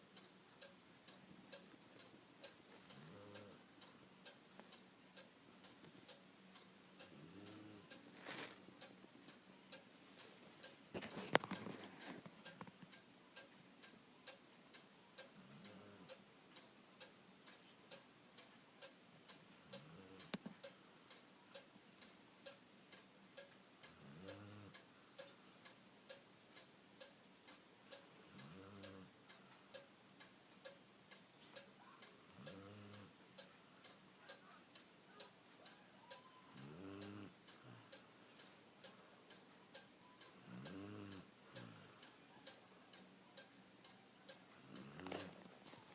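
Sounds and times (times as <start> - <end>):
clock ticking: 0.0 - 45.9.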